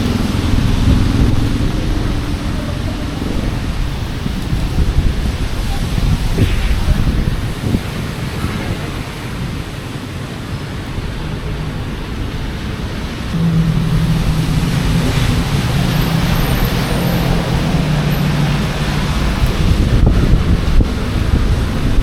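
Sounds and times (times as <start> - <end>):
heavy rain hissing: 0.0 - 22.0
street noise: 0.0 - 22.0
vehicle engine humming: 0.0 - 22.0.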